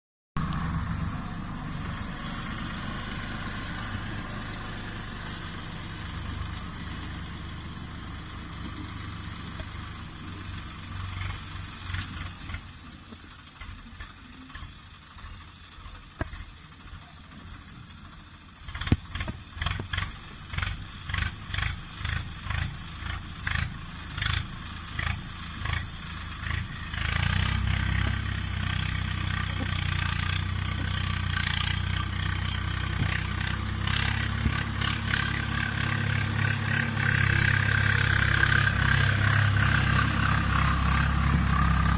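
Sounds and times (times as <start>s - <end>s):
tractor engine rumbling: 0.4s - 41.9s.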